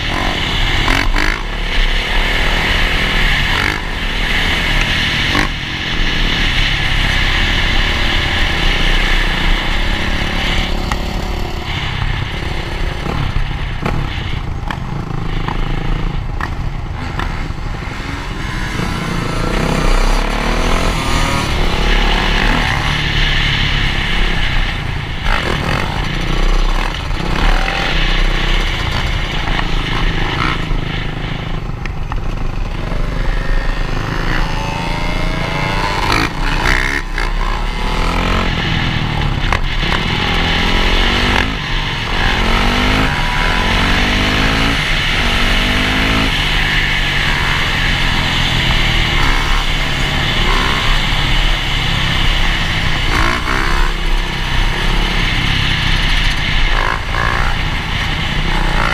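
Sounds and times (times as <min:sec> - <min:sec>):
dirt bike engines revving: 0:00.0 - 0:58.9
low rush of wind from riding: 0:00.0 - 0:58.9.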